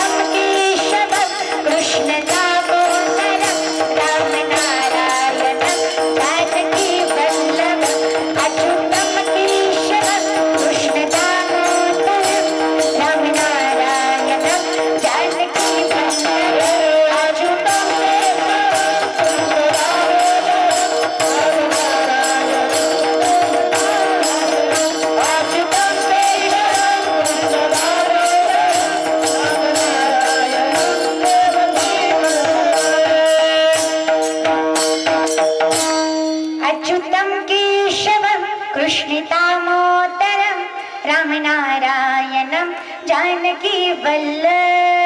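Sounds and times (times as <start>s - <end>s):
harmonium drone melody: 0.0s - 36.9s
hand cymbals beating: 0.0s - 37.0s.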